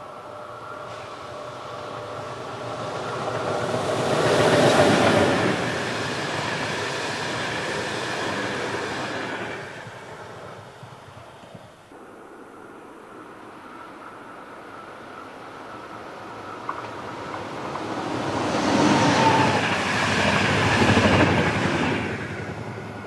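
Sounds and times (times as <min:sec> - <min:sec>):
train passing: 0:00.0 - 0:23.0
train whine: 0:00.0 - 0:23.0.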